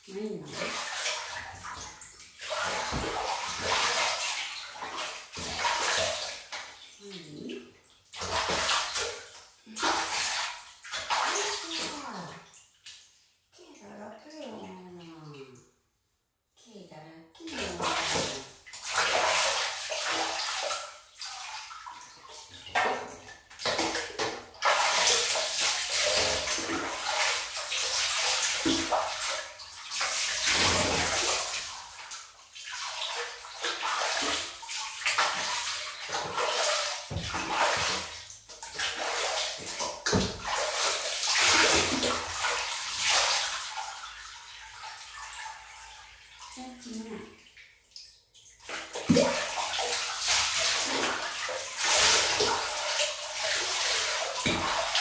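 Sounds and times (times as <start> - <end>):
water splashing and pouring: 0.0 - 13.2, 17.4 - 55.0.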